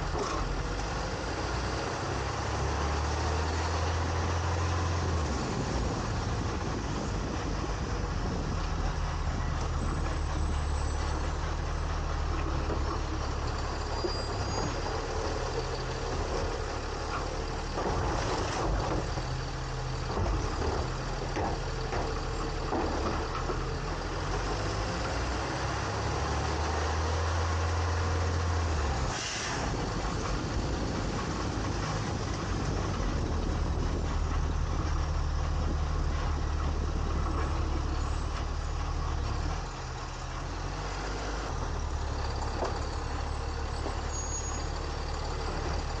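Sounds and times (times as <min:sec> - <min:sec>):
refuse truck engine running: 0:00.0 - 0:46.0.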